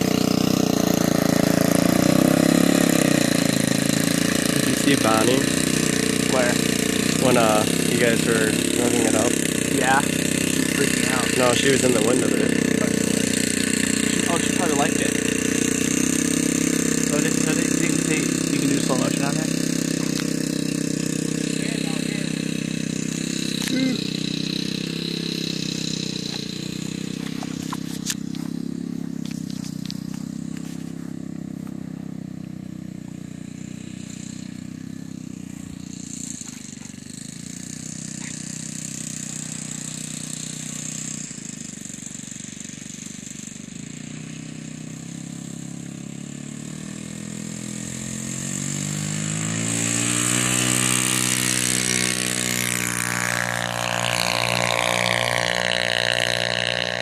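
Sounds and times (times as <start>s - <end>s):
model airplane engine and propeller: 0.0s - 57.0s.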